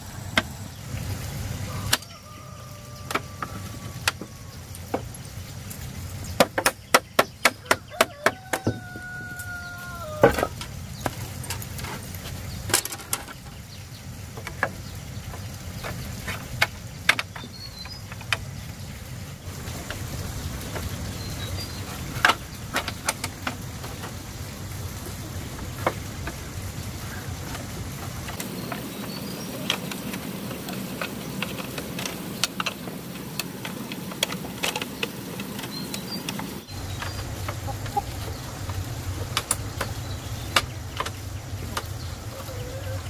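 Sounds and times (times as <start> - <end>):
bamboo strips clicking: 2.8 - 13.6, 14.4 - 18.6, 19.8 - 24.2, 27.4 - 42.6.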